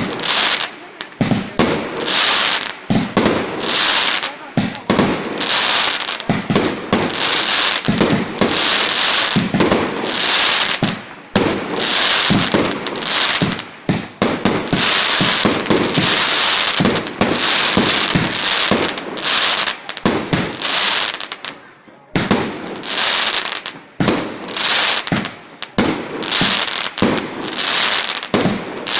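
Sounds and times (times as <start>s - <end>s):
fireworks banging and popping: 0.0s - 28.9s
fireworks crackling: 0.0s - 28.9s.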